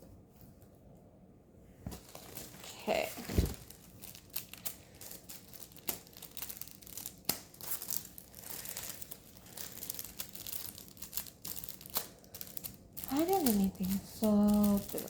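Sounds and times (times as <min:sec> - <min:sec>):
packaging crinkling and tearing: 0:02.0 - 0:15.0.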